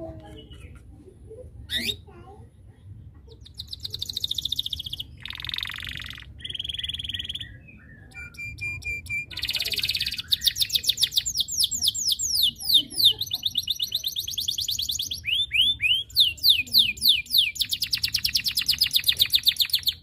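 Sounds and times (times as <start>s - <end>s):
canary singing trills: 1.6s - 2.1s, 3.2s - 20.0s.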